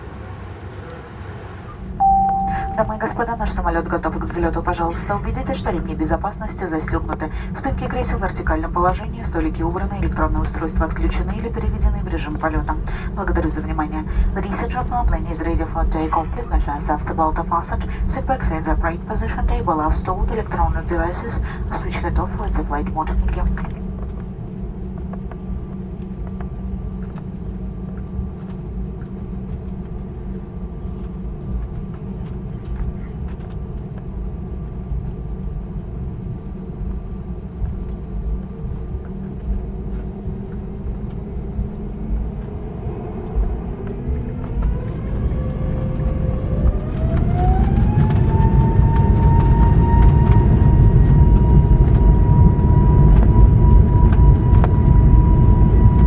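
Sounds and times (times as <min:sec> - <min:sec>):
jet engines rumbling and whining: 0:00.0 - 0:56.0.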